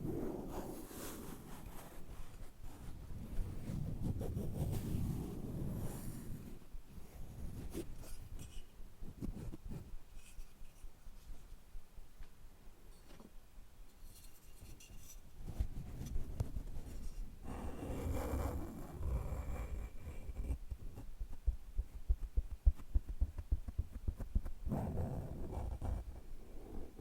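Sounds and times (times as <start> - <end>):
scratching and rubbing small objects: 0.0 - 11.4, 14.0 - 27.0.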